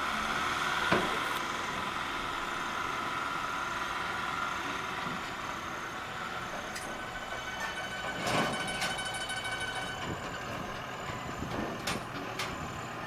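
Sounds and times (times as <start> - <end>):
diesel truck engine idling low: 0.0 - 13.0.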